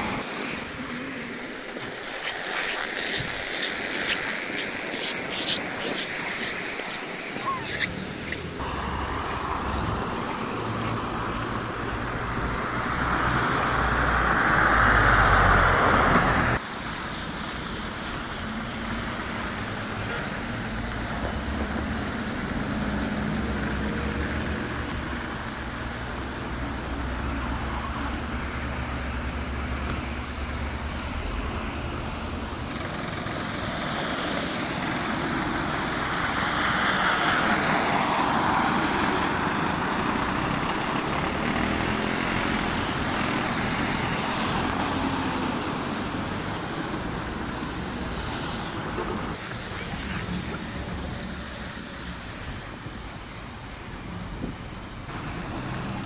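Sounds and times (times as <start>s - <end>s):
vehicles driving past on snow: 0.0s - 53.0s, 54.2s - 56.0s
traffic rumble: 0.0s - 56.0s.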